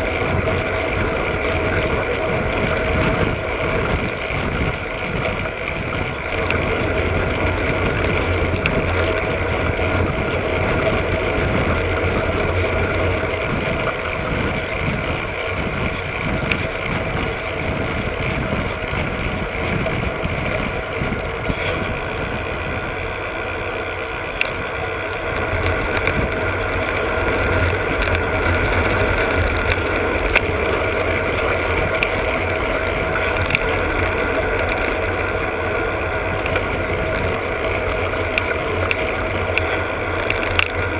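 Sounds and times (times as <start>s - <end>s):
bicycle tyre and road noise: 0.0s - 40.9s
sharp clicks from bumps: 0.0s - 40.9s.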